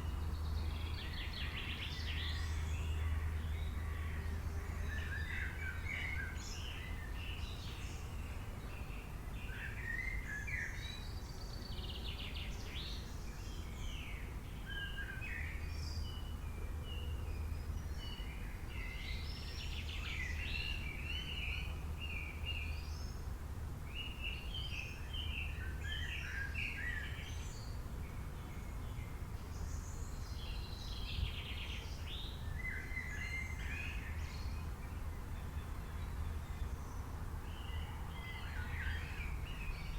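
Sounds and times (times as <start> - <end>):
wild birds chirping and singing: 0.0 - 23.2, 23.9 - 39.9.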